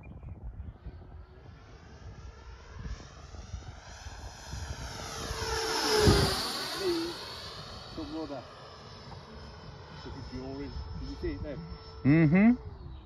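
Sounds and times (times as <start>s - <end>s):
model jet fan whine: 0.2s - 13.0s.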